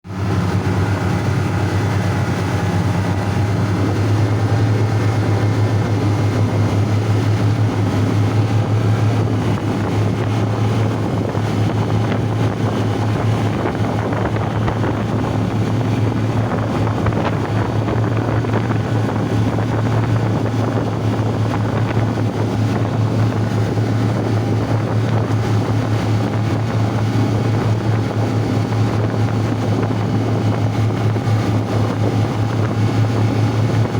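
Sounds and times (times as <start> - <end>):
ship engine droning: 0.0 - 33.9
wind on microphone: 0.0 - 33.9.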